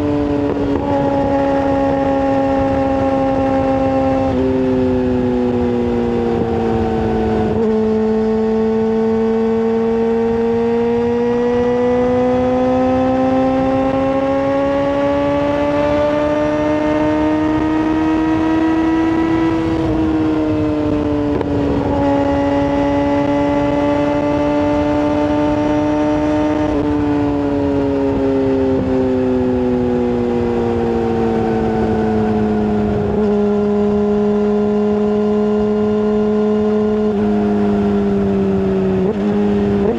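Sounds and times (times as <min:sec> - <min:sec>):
sport bike engine at high revs: 0:00.0 - 0:39.9.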